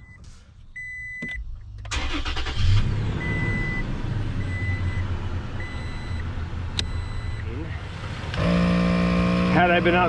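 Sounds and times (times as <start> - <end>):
truck engine starting and idling: 0.8 - 10.0.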